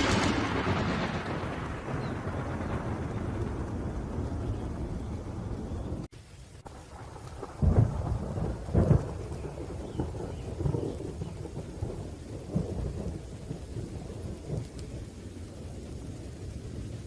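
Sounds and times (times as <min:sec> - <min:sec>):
sharp thunder claps: 0:00.0 - 0:16.8
rain: 0:00.0 - 0:17.0
thunder rumbling: 0:00.0 - 0:17.0.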